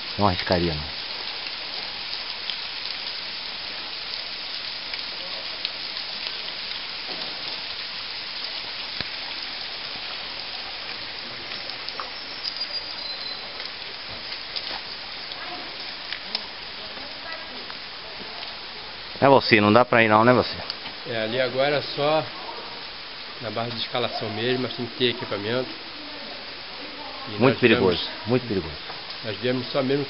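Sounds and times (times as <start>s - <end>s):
water dripping down rock: 0.0s - 30.0s.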